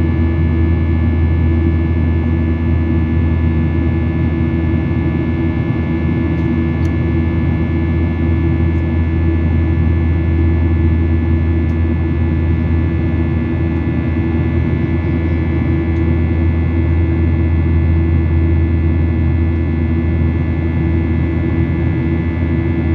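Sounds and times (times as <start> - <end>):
jet engine and airflow drone: 0.0 - 22.9.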